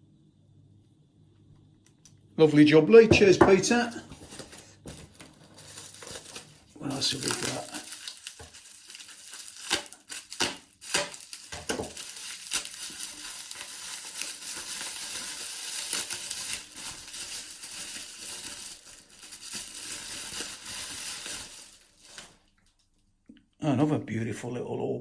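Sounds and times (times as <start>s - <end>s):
bubble wrap crinkling and rustling: 2.9s - 23.0s.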